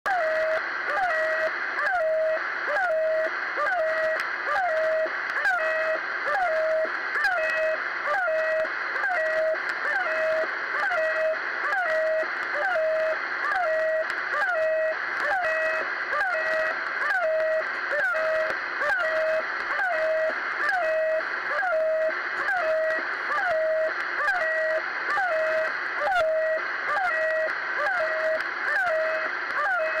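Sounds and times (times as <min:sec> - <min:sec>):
honking radio tone: 0:00.1 - 0:30.0
radio static: 0:00.1 - 0:30.0.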